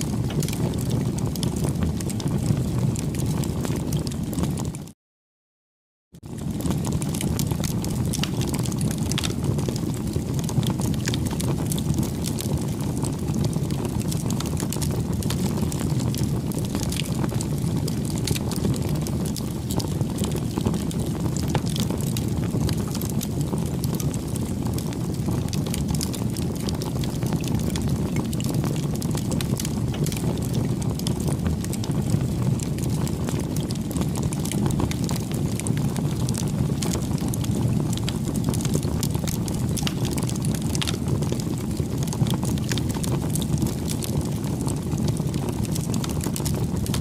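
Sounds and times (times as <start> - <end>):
low rush of flame: 0.0 - 4.8, 6.2 - 47.0
wood crackling and popping: 0.0 - 4.9, 6.2 - 47.0.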